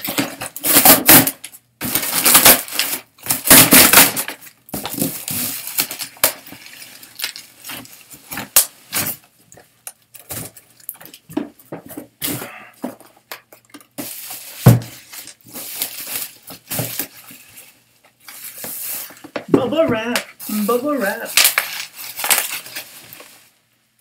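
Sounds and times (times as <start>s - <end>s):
plastic packaging crinkling: 0.0s - 11.3s, 12.9s - 19.4s, 20.0s - 23.7s.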